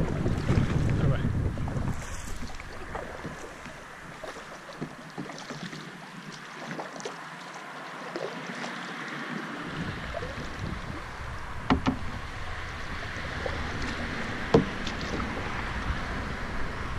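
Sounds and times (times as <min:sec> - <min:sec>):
paddle splashing water: 0:00.0 - 0:16.9.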